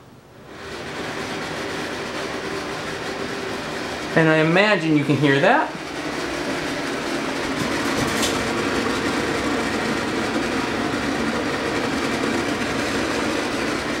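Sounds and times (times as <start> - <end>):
air rushing through grille: 0.0 - 14.0
exhaust fan humming: 0.0 - 14.0.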